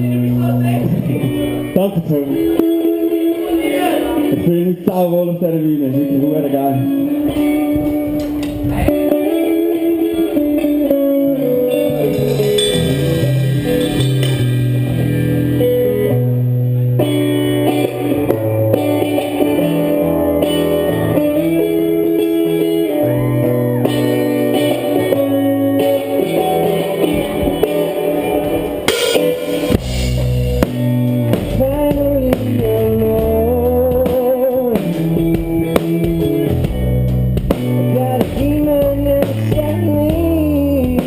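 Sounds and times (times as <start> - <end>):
bass line: 0.0 - 41.0
electric guitar sustained notes: 0.0 - 41.0.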